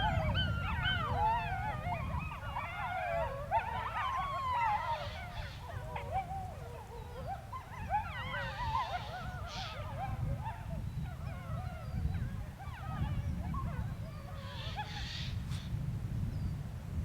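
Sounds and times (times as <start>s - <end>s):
wolves howling in chorus: 0.0s - 15.3s
wolves yipping: 0.0s - 15.7s.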